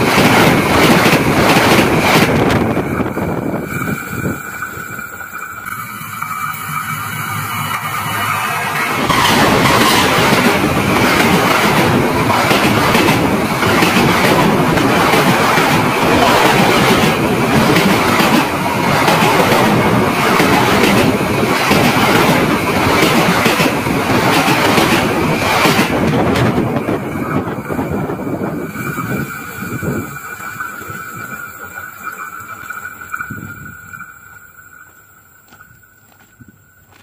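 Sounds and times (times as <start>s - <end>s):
railway wheels on rails clacking: 0.0s - 37.0s.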